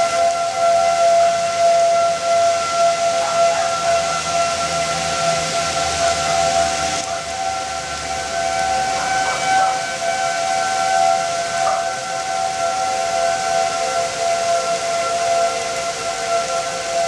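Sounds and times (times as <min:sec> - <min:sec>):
civil defense sirens: 0:00.0 - 0:17.0.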